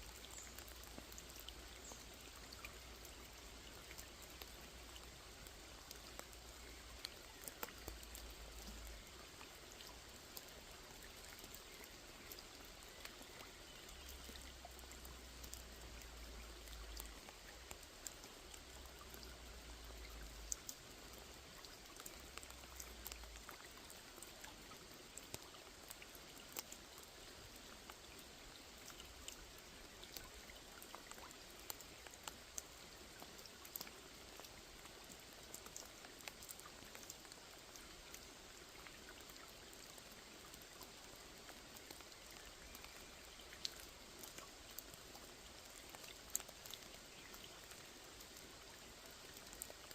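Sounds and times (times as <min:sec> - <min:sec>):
rain hissing on a pond: 0:00.0 - 0:49.9.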